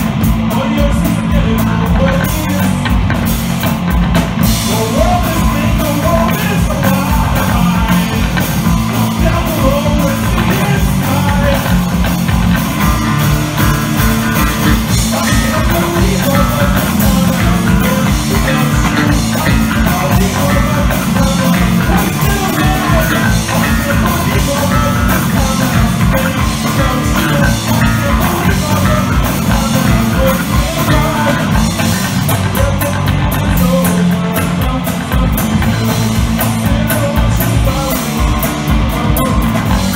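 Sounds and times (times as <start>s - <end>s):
bass guitar: 0.0s - 39.9s
drum kit: 0.0s - 39.9s
electric guitar: 0.0s - 39.9s
person singing into microphone: 4.6s - 11.9s, 14.4s - 39.9s.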